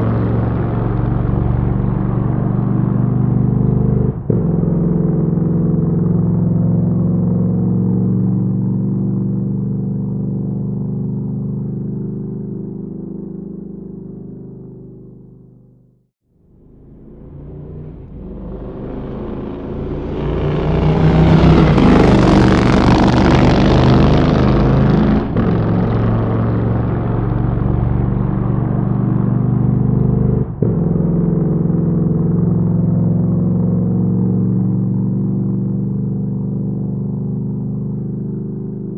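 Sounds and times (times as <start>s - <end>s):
motorcycle engine running: 0.0s - 15.9s, 16.5s - 38.9s.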